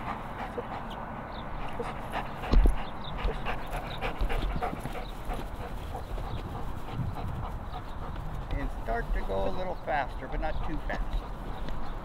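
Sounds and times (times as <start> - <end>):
dog panting hard: 0.0 - 12.0.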